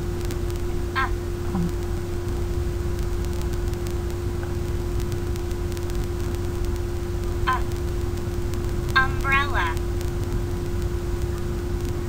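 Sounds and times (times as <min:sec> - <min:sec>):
background hiss and rumble: 0:00.0 - 0:12.0
constant hum tone: 0:00.0 - 0:12.0
faint clicks: 0:00.0 - 0:12.0.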